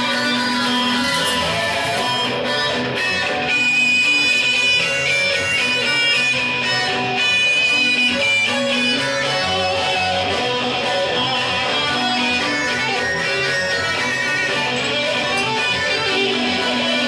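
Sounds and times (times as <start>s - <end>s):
guitar playing: 0.0s - 17.0s.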